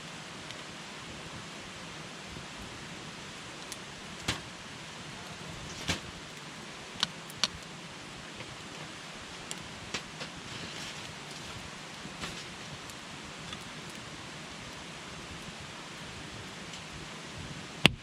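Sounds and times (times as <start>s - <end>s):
hiss of campfire flames: 0.0s - 18.0s
burning wood crackling and popping: 0.1s - 18.0s.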